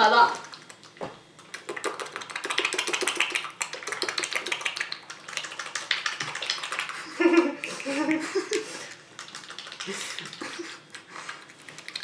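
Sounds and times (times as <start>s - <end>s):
wet mouth clicks and smacks: 0.4s - 7.8s, 8.5s - 12.0s.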